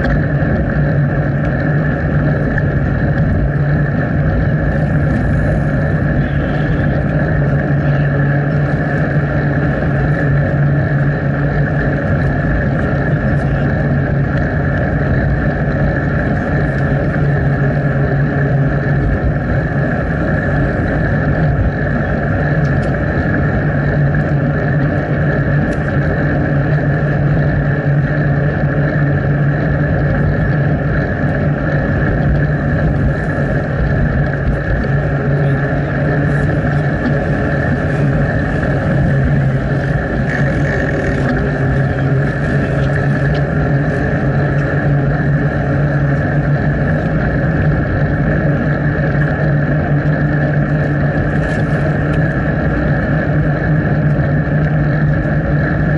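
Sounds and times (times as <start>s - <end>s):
bicycle riding noise: 0.0s - 55.9s.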